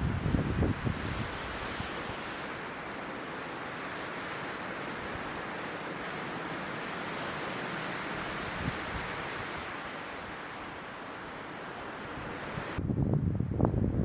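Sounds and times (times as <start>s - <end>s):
strong wind through trees: 0.0s - 14.0s.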